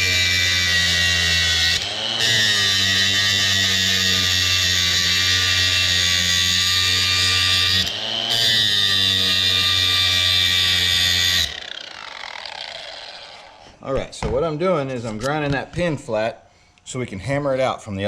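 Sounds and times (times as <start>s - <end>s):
grinder grinding metal: 0.0s - 16.2s.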